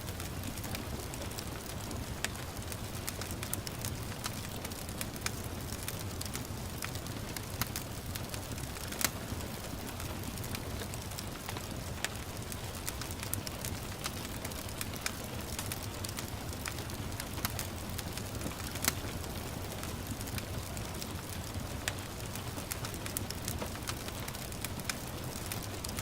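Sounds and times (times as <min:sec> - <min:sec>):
gentle rain hiss: 0:00.0 - 0:26.0
wood fire crackling and popping: 0:00.0 - 0:26.0.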